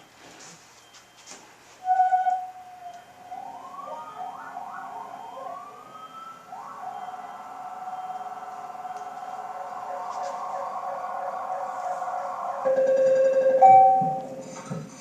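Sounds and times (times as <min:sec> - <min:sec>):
emergency siren wailing: 0:01.8 - 0:14.6.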